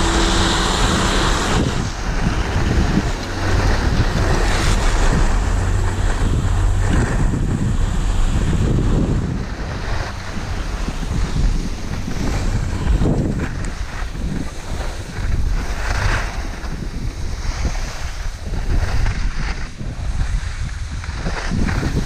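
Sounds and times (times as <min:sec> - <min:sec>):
skis scraping over snow: 0:00.0 - 0:22.0
wind rushing over microphone: 0:00.0 - 0:22.0.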